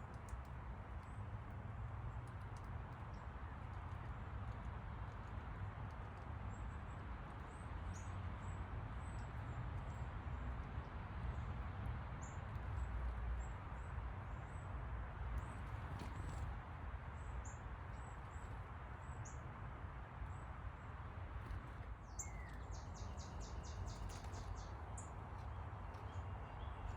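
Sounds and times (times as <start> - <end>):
low outdoor rumble: 0.0 - 26.9
small songbirds chirping: 0.0 - 26.9.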